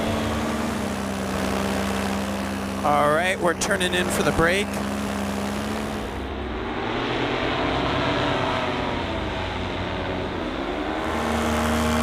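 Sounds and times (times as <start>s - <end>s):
paramotor engines droning overhead: 0.0s - 12.0s.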